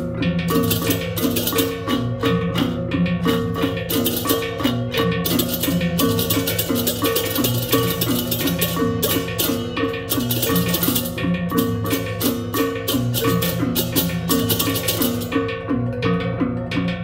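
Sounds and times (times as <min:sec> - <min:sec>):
drums: 0:00.0 - 0:17.0
hand cymbal strokes: 0:00.0 - 0:17.0
low gongs: 0:00.0 - 0:17.0.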